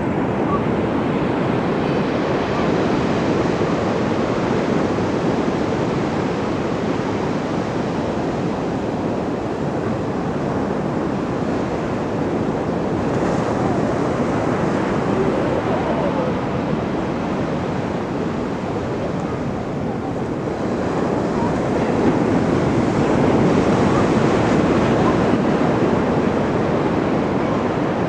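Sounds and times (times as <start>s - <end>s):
surf waves rushing: 0.0s - 28.0s.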